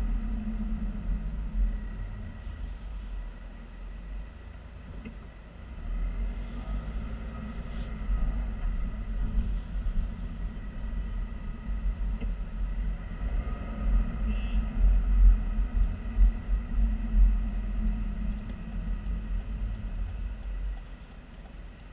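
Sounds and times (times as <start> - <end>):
car cabin engine and tyre rumble: 0.0 - 21.9.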